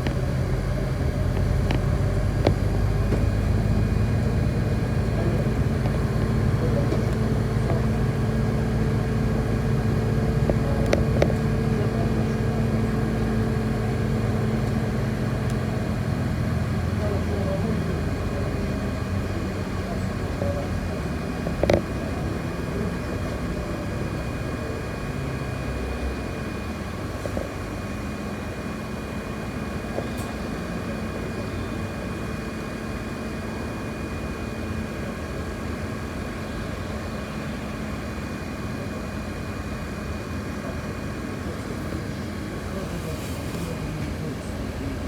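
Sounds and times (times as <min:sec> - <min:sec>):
bus engine rumble: 0:00.0 - 0:45.0.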